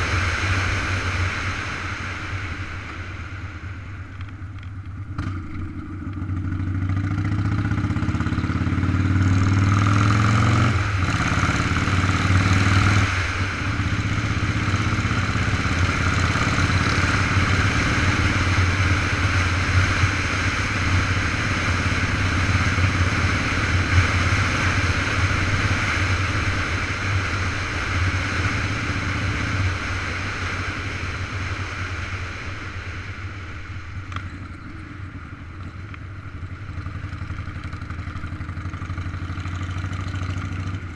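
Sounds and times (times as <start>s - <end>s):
rush of wind: 0.0s - 38.6s
motorcycle engine under way: 4.1s - 40.9s.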